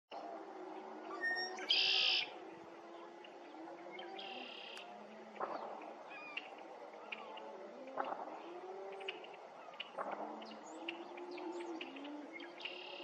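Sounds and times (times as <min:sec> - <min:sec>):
low drawn-out bird calls: 0:00.1 - 0:13.0.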